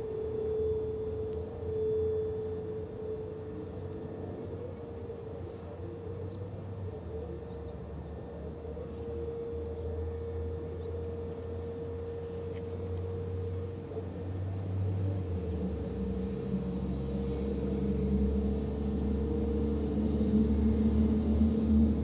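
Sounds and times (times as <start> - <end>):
outdoor warning sirens steady tone: 0.0 - 22.0.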